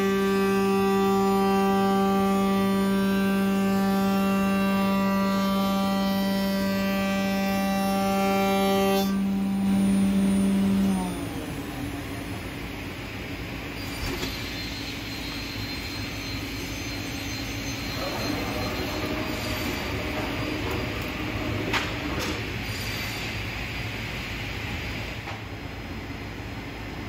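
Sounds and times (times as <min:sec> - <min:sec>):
router spindle whine: 0:00.0 - 0:24.3
machine mechanical hum: 0:00.0 - 0:27.0.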